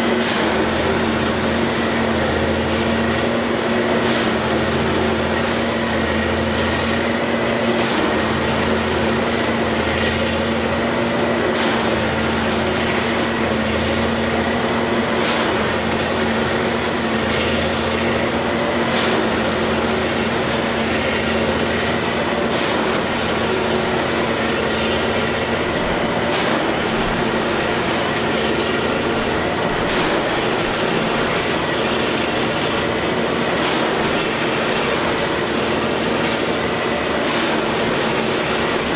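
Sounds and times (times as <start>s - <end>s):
track maintenance machine engine hum: 0.0s - 38.9s.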